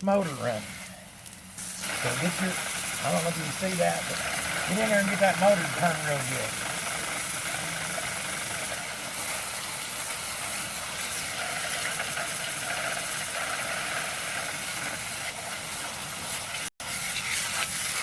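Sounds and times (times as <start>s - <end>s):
garden hose spraying water: 0.0s - 18.0s.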